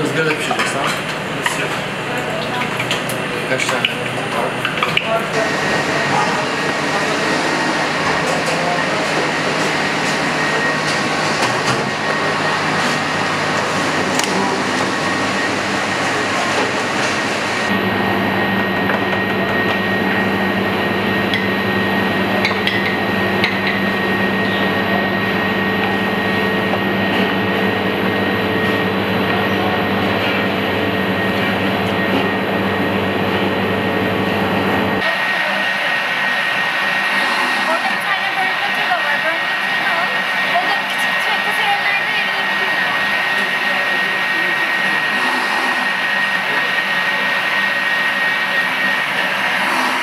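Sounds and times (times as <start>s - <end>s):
ventilation fans rushing: 0.0s - 50.0s.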